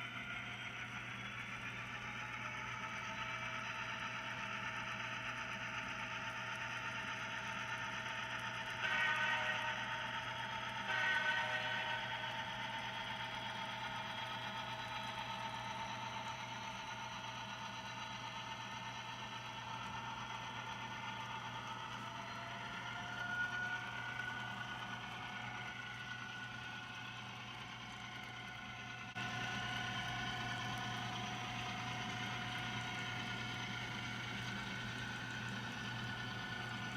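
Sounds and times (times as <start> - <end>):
model train motor humming and whining: 0.0 - 36.9.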